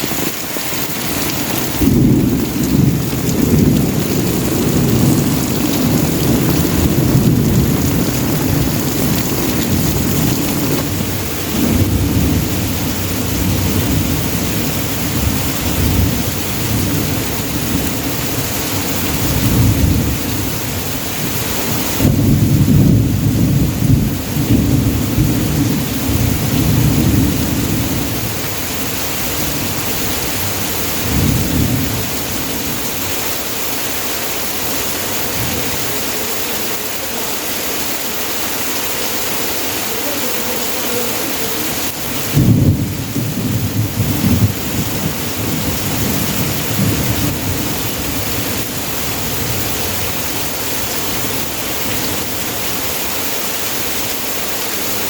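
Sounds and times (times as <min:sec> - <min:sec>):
hiss of heavy rain: 0:00.0 - 0:55.0.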